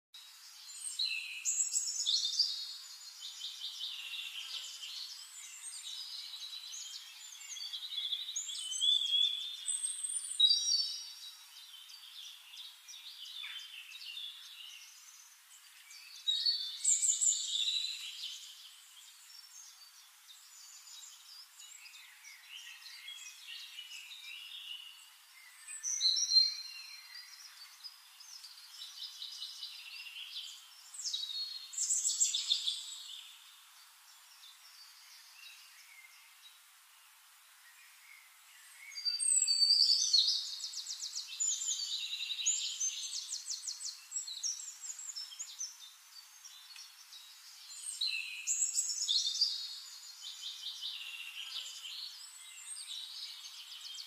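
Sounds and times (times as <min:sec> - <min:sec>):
birds chirping and singing: 0:00.4 - 0:36.7, 0:37.6 - 0:54.0.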